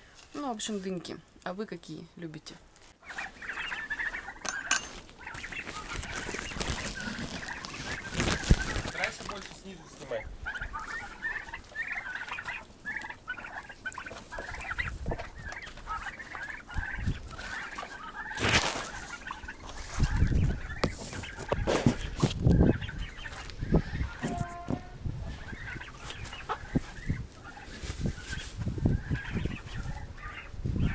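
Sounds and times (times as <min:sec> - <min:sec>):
chickens clucking: 0:02.8 - 0:30.9.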